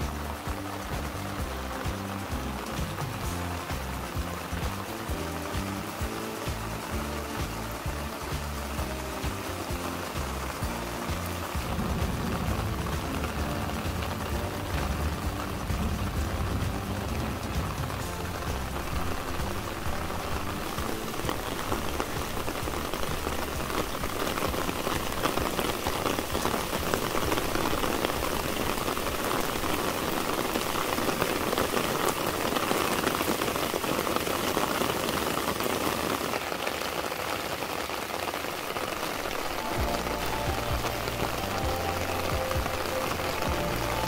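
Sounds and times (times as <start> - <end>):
steady rain on plants: 0.0 - 44.0.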